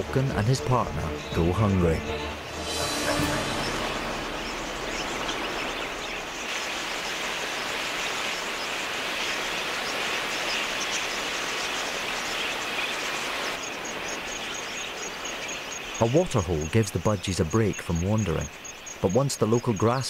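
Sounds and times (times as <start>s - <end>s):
flock of budgerigars chirping: 2.7s - 20.0s.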